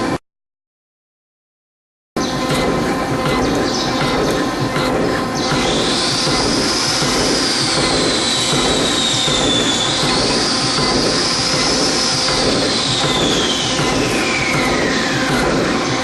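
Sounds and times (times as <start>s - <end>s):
high machine whine: 2.2s - 16.0s
machine mechanical clatter: 2.2s - 16.0s.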